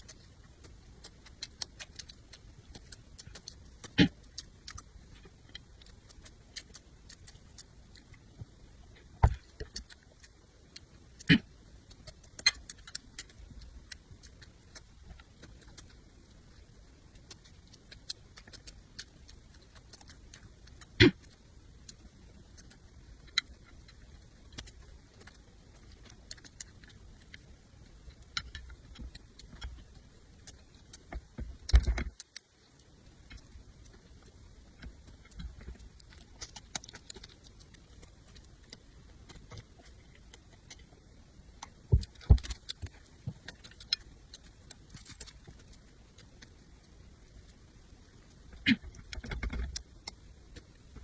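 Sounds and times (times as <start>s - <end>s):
wet chewing sounds: 0.0s - 51.0s.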